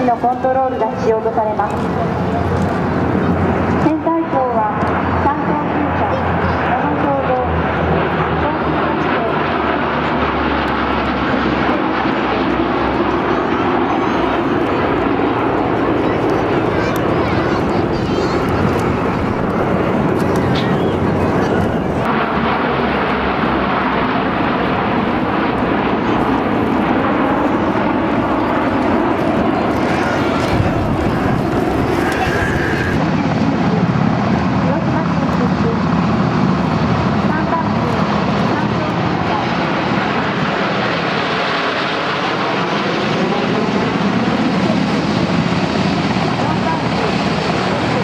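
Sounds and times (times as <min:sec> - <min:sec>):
turboprop aircraft engines: 0:00.0 - 0:48.0.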